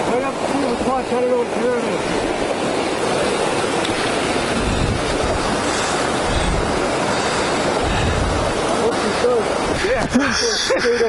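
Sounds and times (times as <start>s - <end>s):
fast river water rushing: 0.0s - 11.0s
wind gusting on microphone: 0.0s - 11.0s.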